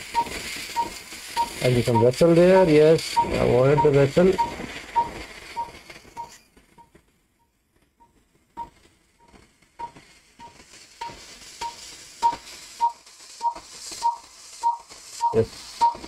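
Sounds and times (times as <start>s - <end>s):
short electronic beeps: 0.1s - 6.9s, 9.8s - 16.0s.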